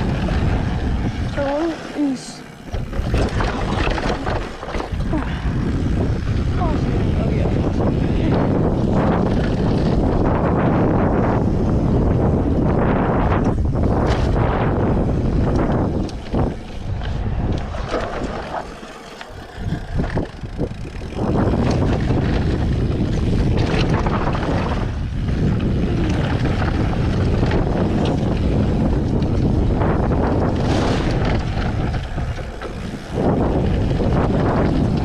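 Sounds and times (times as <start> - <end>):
tyre and trail rumble: 0.0 - 35.0
wind buffeting microphone: 0.0 - 35.0.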